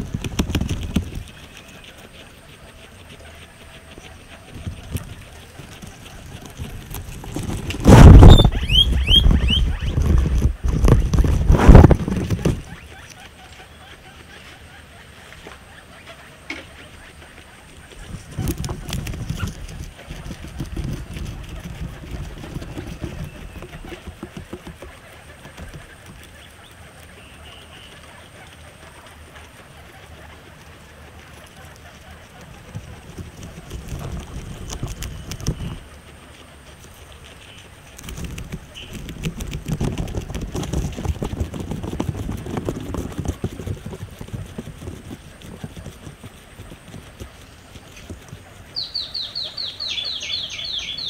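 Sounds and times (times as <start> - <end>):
guinea pig chewing grass: 0.0 - 51.0.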